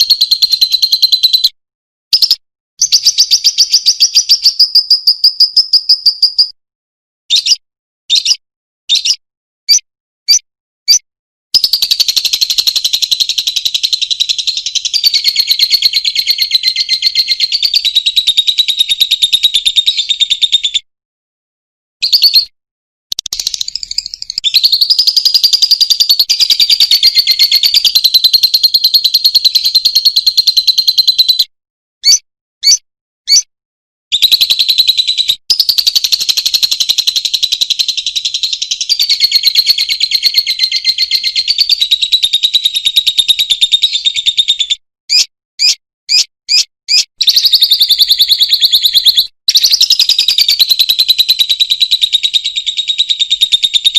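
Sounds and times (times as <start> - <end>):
lovebird chattering trill: 0.0 - 1.5, 2.1 - 6.6, 7.3 - 11.0, 11.6 - 20.8, 22.0 - 22.5, 23.1 - 31.4, 32.0 - 33.5, 34.1 - 53.9
bird chirps: 0.0 - 6.6, 7.3 - 20.9, 22.0 - 33.5, 34.1 - 53.9.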